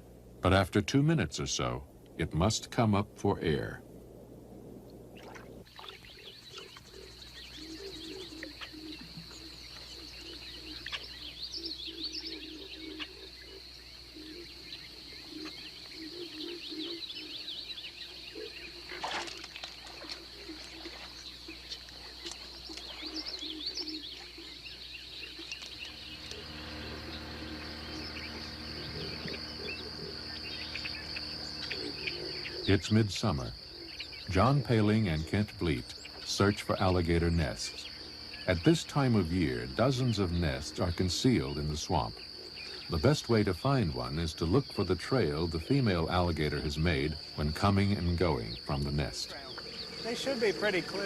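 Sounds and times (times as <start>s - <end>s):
low steady hum: 0.0s - 51.0s
low repeated animal calls: 5.0s - 51.0s
birds chirping and calling: 5.2s - 51.0s
high insect drone: 5.2s - 51.0s.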